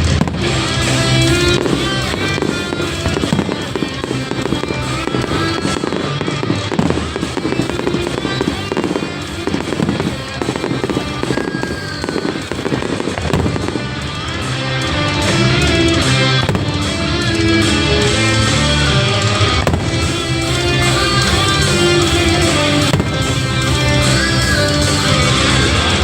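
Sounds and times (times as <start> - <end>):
fireworks bangs and crackles: 0.0 - 26.0
show music over loudspeakers: 0.0 - 26.0.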